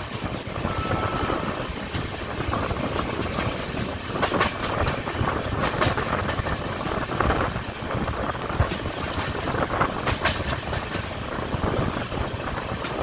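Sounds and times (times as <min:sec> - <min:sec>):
train wheels rumbling on rails: 0:00.0 - 0:13.0
wheels clacking over rail joints: 0:01.6 - 0:13.0.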